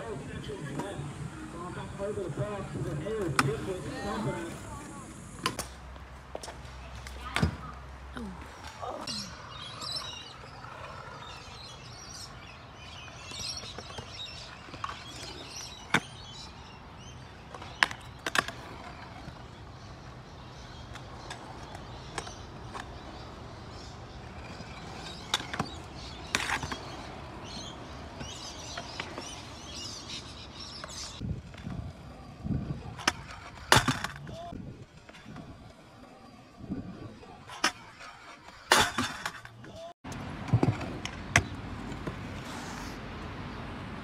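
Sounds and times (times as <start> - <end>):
birds chirping: 0.0 - 5.6, 6.4 - 39.9
scooter wheels rolling on concrete: 0.0 - 44.0.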